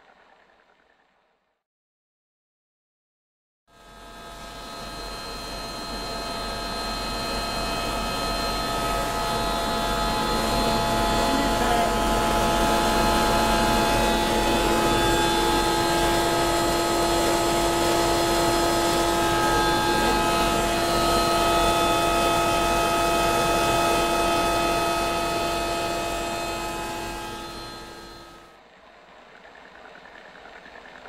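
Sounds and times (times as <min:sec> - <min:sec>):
machine whir with steady tones: 0:03.8 - 0:31.0.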